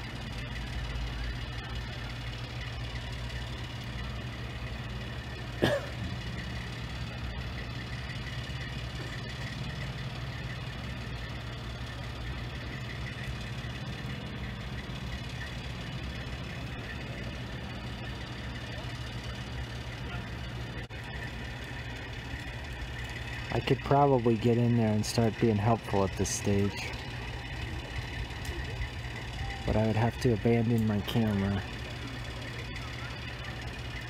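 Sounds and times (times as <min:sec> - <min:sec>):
crane engine idling: 0:00.0 - 0:34.0.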